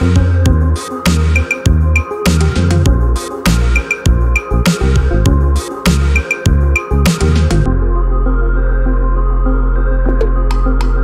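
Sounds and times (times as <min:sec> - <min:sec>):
music with long held notes: 0:00.0 - 0:11.0.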